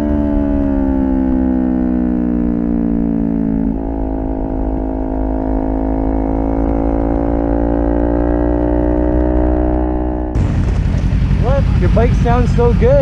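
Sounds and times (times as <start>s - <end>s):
motorcycle engine cruising: 0.0s - 13.0s
wind rumble: 0.0s - 13.0s.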